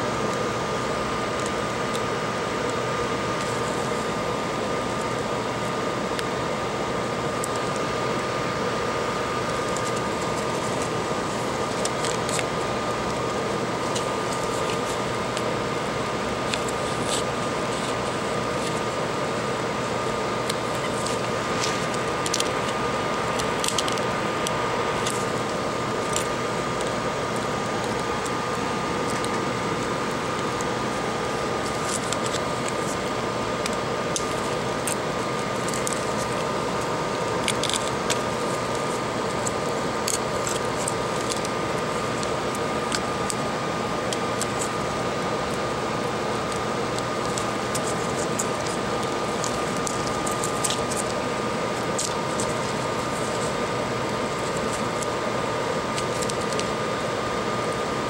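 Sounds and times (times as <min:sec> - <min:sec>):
mechanical hum with held tone: 0:00.0 - 0:58.0.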